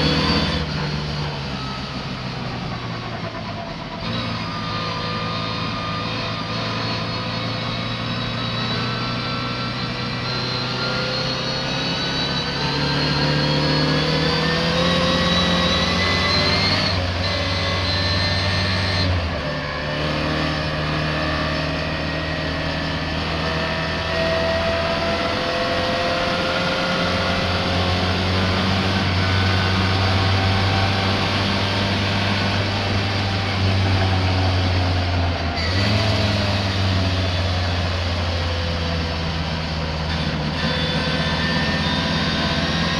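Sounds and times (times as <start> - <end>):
misfiring racing car engine accelerating: 0.0 - 42.9.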